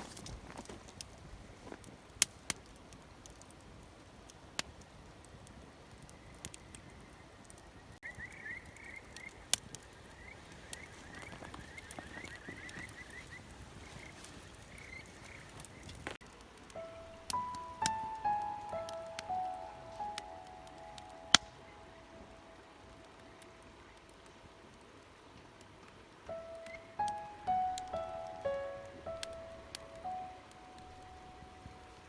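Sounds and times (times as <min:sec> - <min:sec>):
campfire crackling and popping: 0:00.0 - 0:32.0
faint steady hiss: 0:00.0 - 0:32.0.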